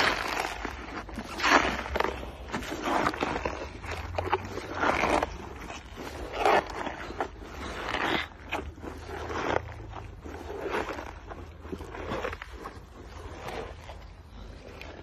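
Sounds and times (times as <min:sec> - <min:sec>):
hippopotamus chewing lettuce: 0:00.0 - 0:15.0.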